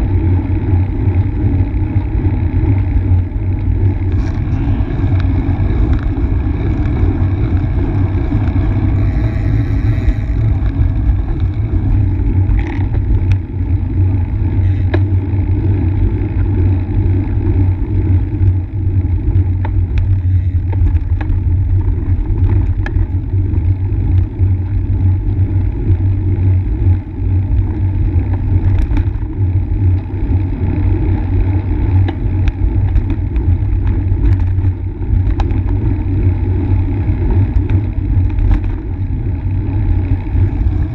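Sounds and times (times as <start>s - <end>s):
road and tyre rumble: 0.0s - 40.9s
wind: 0.0s - 40.9s.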